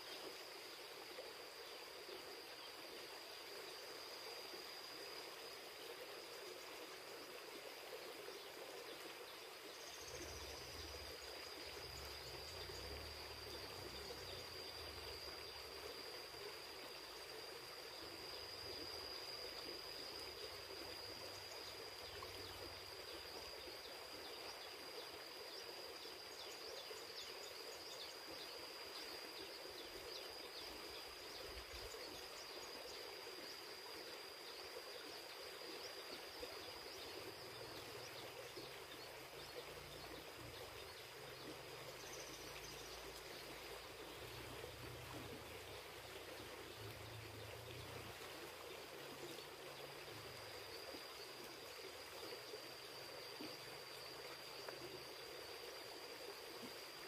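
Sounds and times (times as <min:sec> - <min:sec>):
high-pitched insect whine: 0:00.0 - 0:57.0
river water running: 0:00.0 - 0:57.0.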